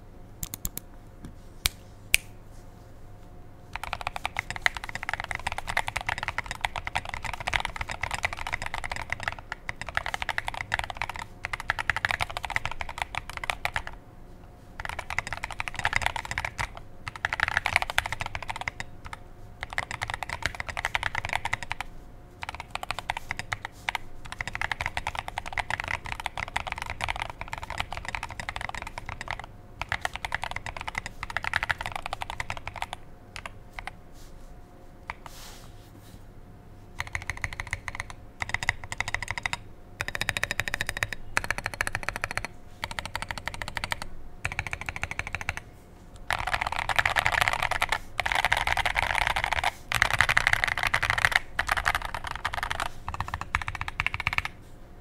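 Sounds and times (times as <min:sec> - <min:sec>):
mechanical keyboard typing: 0:03.7 - 0:14.0, 0:14.8 - 0:34.0, 0:37.0 - 0:45.6, 0:46.2 - 0:54.6.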